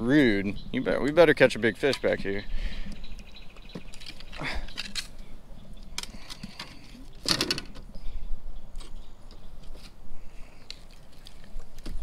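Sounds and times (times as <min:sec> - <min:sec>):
branches and leaves rustling: 0:00.0 - 0:12.0.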